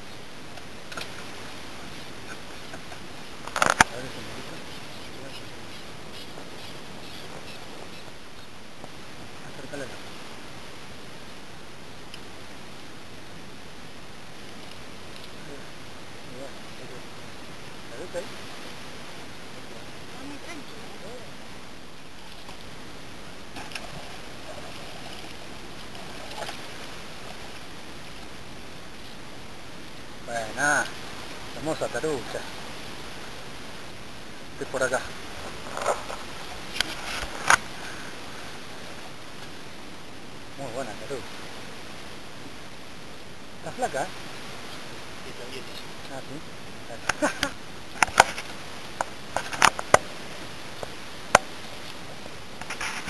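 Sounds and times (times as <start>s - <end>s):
rushing water and air: 0.0s - 53.0s
steady low hiss: 0.0s - 53.0s.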